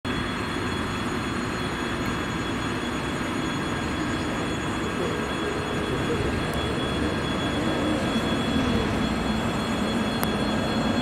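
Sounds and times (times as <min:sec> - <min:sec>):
diesel engines droning: 0:00.1 - 0:11.0.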